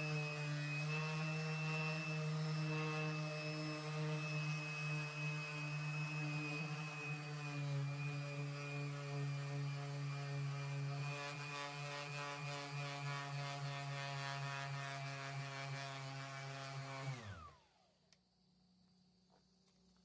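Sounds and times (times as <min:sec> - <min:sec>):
power sander motor running: 0:00.0 - 0:17.9.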